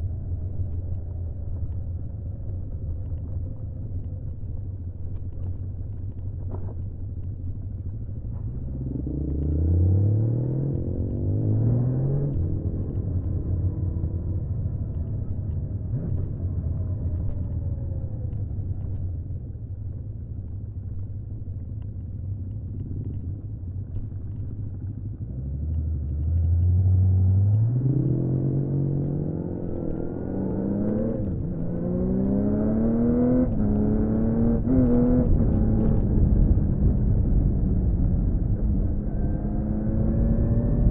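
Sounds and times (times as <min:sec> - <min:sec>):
motorcycle engine accelerating: 0:05.2 - 0:40.9.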